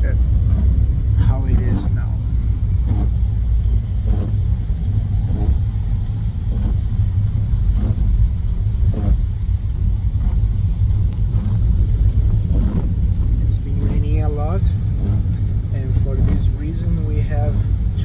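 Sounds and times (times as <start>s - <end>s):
car driving in rain rumble: 0.0s - 18.0s.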